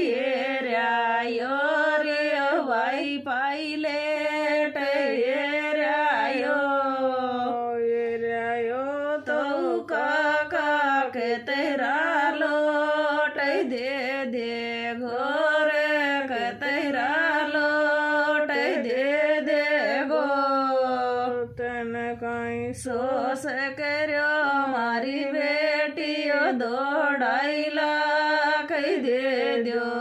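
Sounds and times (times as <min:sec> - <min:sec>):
woman singing unaccompanied: 0:00.0 - 0:30.0.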